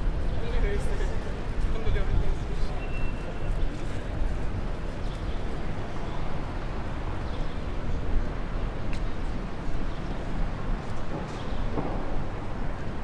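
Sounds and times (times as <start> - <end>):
city street rumble and hiss: 0.0 - 13.0.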